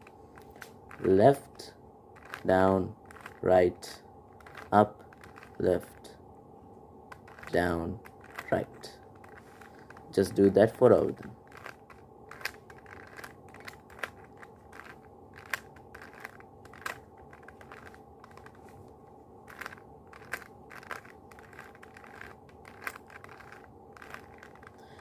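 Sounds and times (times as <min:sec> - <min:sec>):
plastic cube twisting clicks: 0:00.0 - 0:01.6, 0:02.2 - 0:03.4, 0:04.3 - 0:06.1, 0:07.1 - 0:10.2, 0:11.0 - 0:18.8, 0:19.5 - 0:25.0
faint steady hum: 0:00.0 - 0:25.0.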